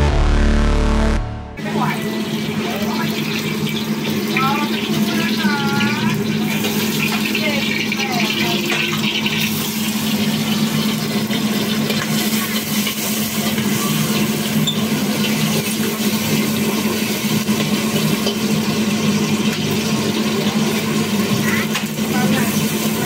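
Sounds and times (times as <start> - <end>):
gas burner roar: 0.0 - 23.0
shrimp sizzling in oil: 1.7 - 23.0.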